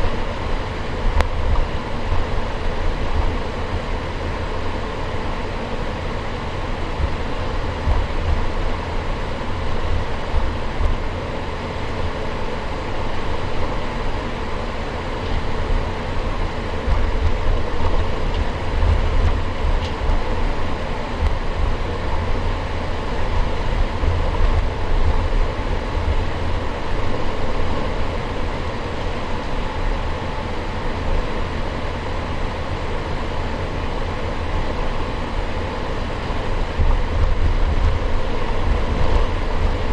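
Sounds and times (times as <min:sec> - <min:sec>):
aircraft rolling rumble: 0:00.0 - 0:30.2, 0:32.9 - 0:39.9
jet engines humming: 0:00.0 - 0:39.9.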